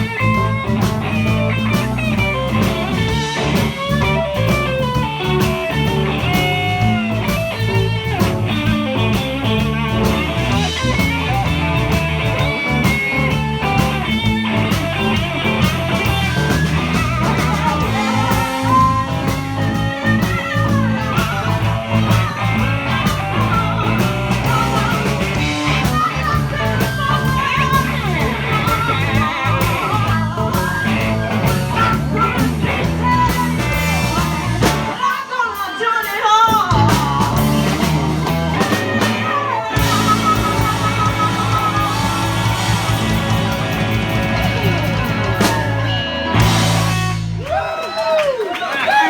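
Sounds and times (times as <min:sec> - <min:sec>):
stepping bass line: 0:00.0 - 0:35.0, 0:36.5 - 0:47.6
bending guitar lead: 0:00.0 - 0:35.2, 0:36.5 - 0:47.6
steady drums: 0:00.0 - 0:48.2.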